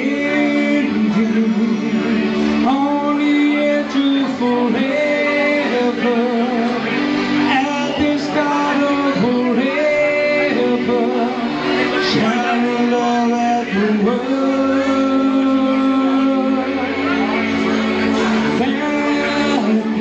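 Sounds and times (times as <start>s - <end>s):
man singing: 0.0s - 20.0s.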